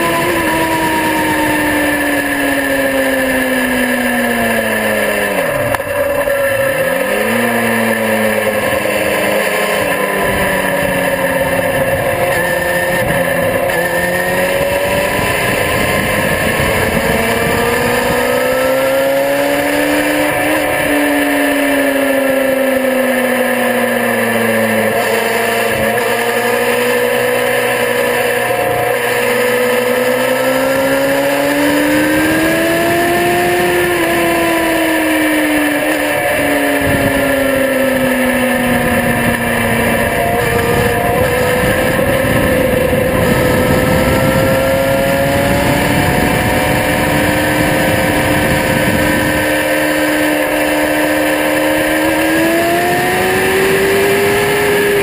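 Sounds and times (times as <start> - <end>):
wind rush on microphone: 0.0 - 22.0, 24.2 - 55.0
motorcycle engine at speed: 0.0 - 55.0.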